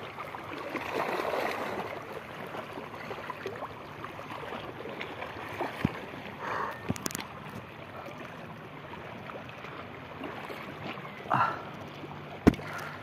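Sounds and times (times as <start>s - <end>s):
seawater sloshing and lapping: 0.0s - 13.0s.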